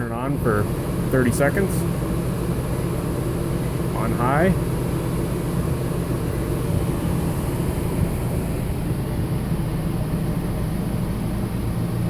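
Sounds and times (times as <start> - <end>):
air conditioner humming: 0.0 - 12.0
microwave heating: 0.0 - 12.0.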